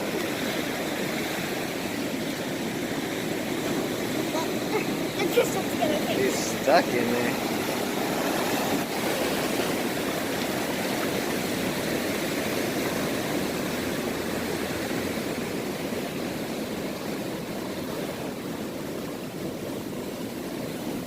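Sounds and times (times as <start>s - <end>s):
ocean surf washing over beach: 0.0s - 21.0s.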